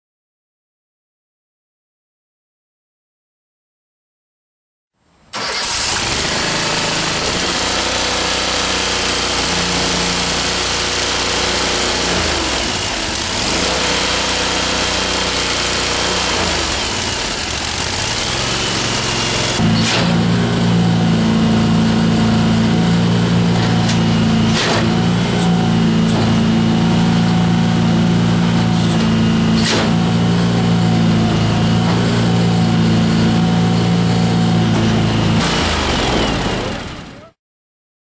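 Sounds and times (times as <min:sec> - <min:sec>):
chipper engine running: 0:05.4 - 0:37.3.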